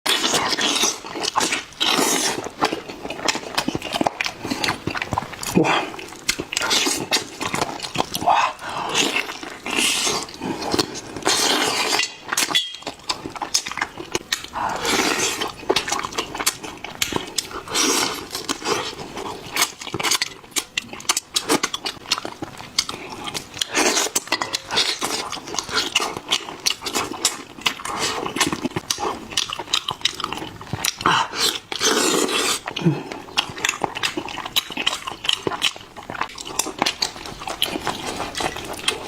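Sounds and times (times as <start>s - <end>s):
pet crunching and chewing: 0.1s - 39.0s
wet eating smacks: 0.1s - 39.0s.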